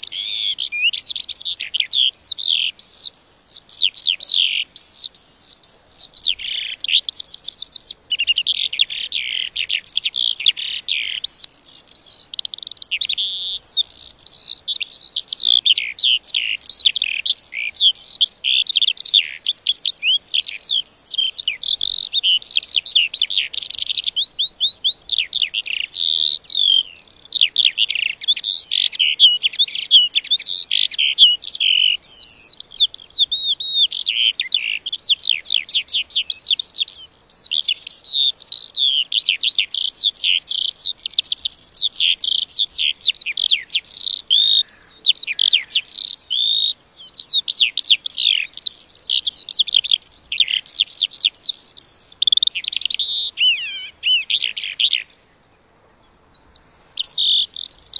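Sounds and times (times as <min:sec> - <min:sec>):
lark singing: 0:00.0 - 0:57.9.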